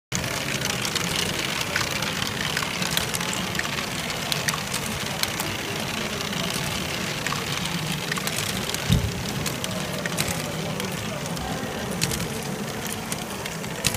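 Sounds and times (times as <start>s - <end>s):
plastic balls clattering: 0.2s - 13.9s.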